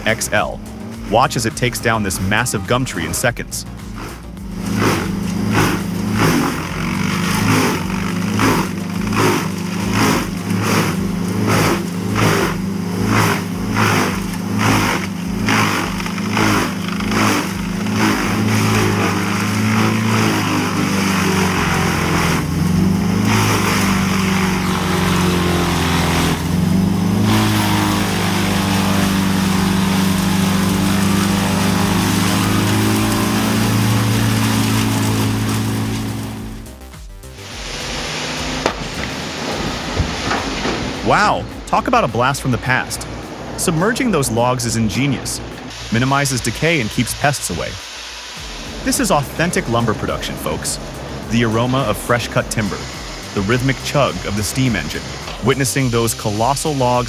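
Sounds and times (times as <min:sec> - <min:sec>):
wood chipper chewing branches: 0:00.0 - 0:57.0.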